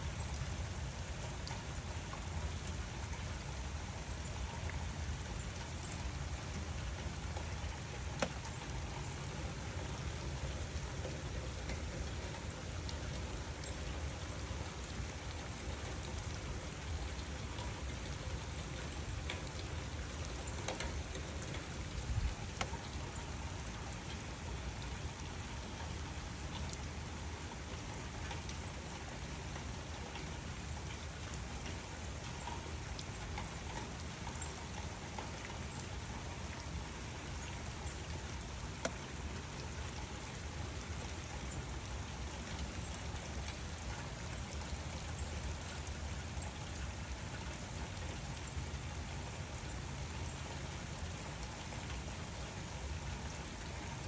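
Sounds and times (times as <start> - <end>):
steady rain falling: 0.0 - 54.0
raindrop clicks: 1.2 - 3.3, 4.3 - 54.0.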